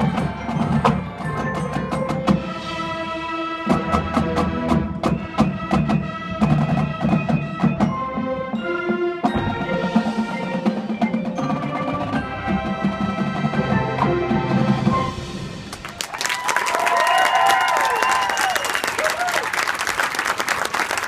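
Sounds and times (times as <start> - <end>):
marching band playing: 0.0 - 16.9
drums: 0.0 - 19.4.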